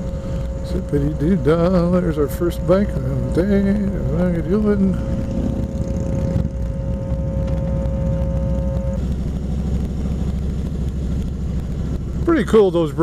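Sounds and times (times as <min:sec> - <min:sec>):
motorcycle engine running: 0:00.0 - 0:13.0
steady whine: 0:00.0 - 0:13.0.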